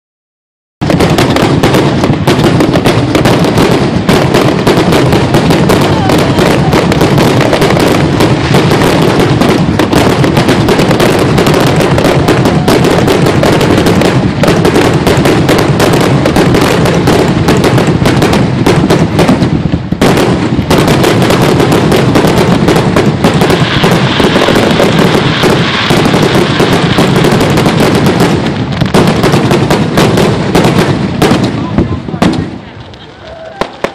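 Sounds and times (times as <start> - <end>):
fireworks bangs and crackles: 0.8 - 33.9.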